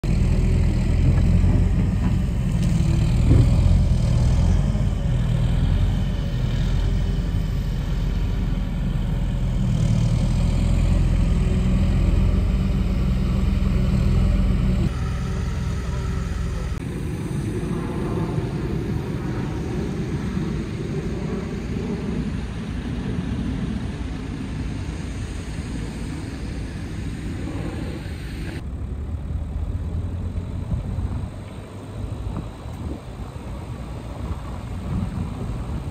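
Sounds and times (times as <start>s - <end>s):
distant construction site noise: 0.0s - 35.9s
excavator diesel engine running: 0.0s - 35.9s.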